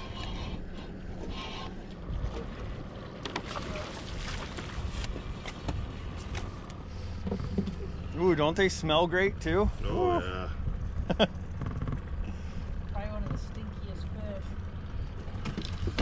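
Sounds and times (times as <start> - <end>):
water lapping against boat: 0.0 - 16.0
wind: 0.0 - 16.0.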